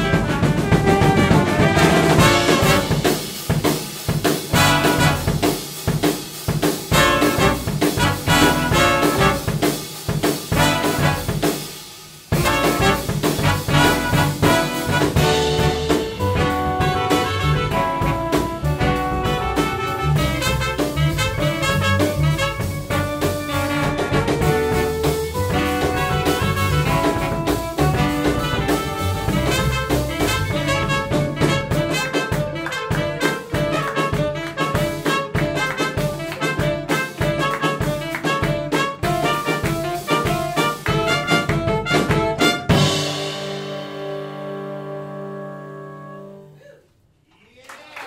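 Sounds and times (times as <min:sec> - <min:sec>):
jazz big band playing: 0:00.0 - 0:46.6.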